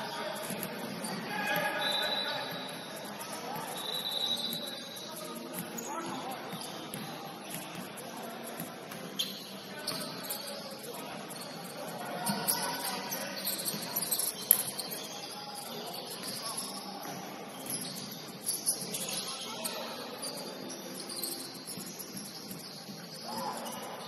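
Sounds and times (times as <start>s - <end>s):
sneaker squeaks: 0.0s - 24.0s.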